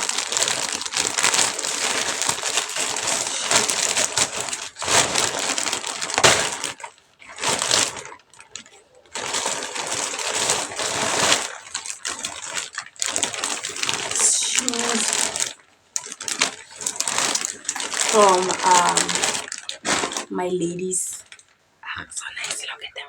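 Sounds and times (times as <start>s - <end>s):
packaging crinkling and rustling: 0.0s - 21.6s.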